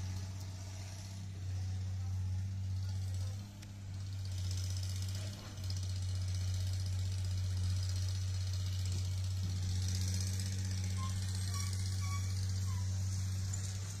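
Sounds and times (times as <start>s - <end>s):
engine idling hum: 0.0s - 14.0s.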